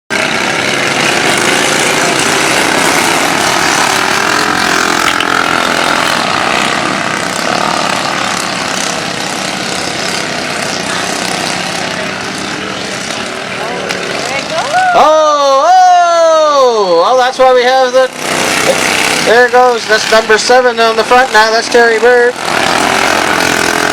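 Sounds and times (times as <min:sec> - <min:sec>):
lawnmower engines revving high: 0:00.1 - 0:23.9.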